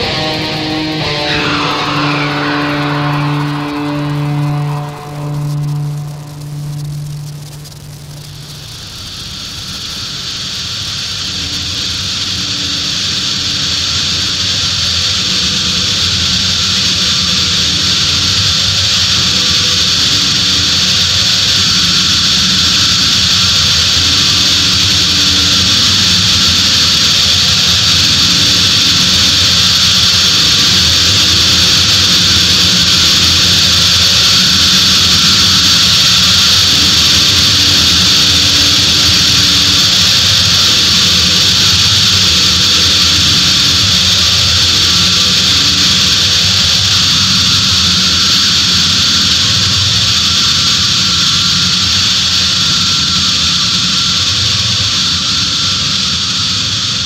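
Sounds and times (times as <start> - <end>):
hissing distorted noise: 0.0 - 57.0
low droning tones: 0.0 - 57.0.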